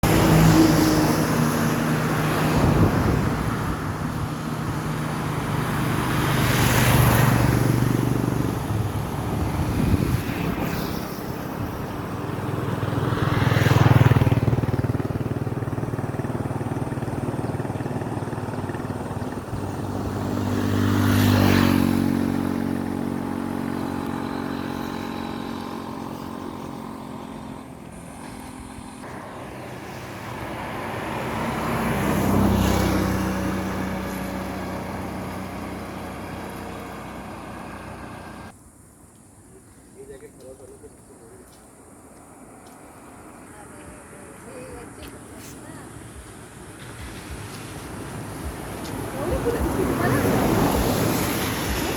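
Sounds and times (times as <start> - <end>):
motor vehicles passing: 0.0 - 39.1, 39.9 - 51.9.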